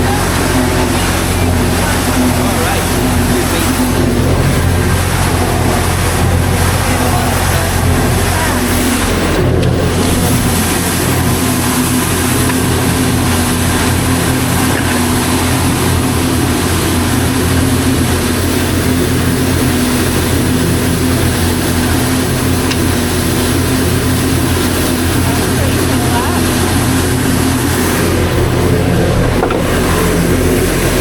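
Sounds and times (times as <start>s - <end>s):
pressure washer running: 0.0s - 31.0s.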